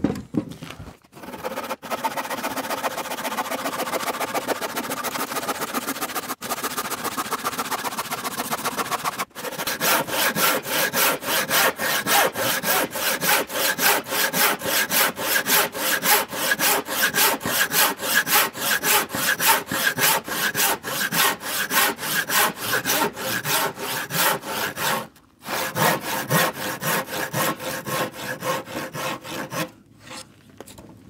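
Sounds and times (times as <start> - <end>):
handsaw cutting wood: 1.1 - 30.2.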